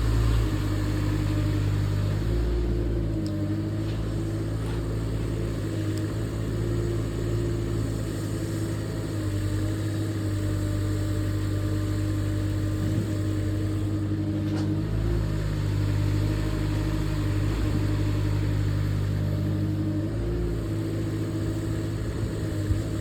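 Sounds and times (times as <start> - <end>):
mini excavator engine running: 0.0 - 23.0.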